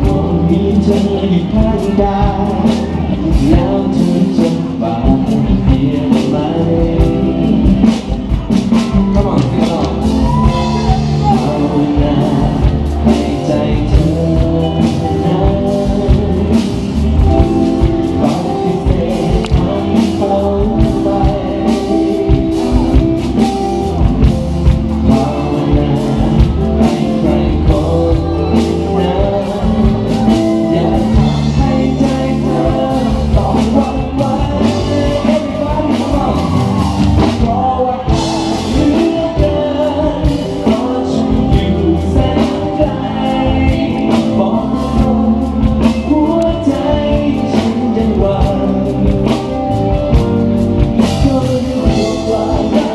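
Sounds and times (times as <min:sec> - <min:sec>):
drum kit steady beat: 0:00.0 - 0:52.9
electric guitars: 0:00.0 - 0:52.9
keyboard: 0:00.0 - 0:52.9
man singing lead vocals: 0:00.0 - 0:52.9.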